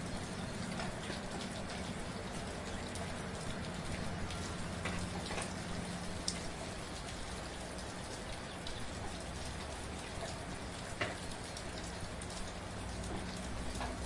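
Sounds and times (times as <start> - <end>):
raindrops striking a surface: 0.0 - 14.0
soft rain hiss: 0.0 - 14.0.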